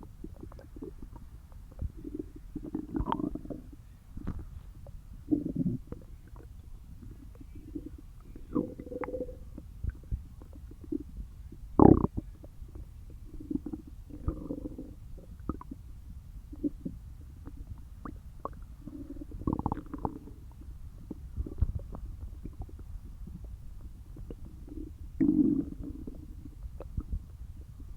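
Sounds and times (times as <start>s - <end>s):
stomach growling: 0.0s - 15.8s, 16.5s - 27.9s
stomach gurgling: 0.0s - 27.9s.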